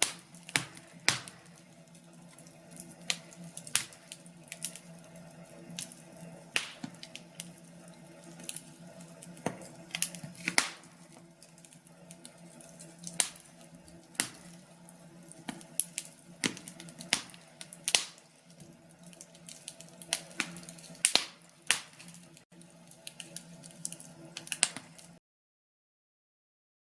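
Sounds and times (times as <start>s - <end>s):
wood fire crackling: 0.0s - 25.2s.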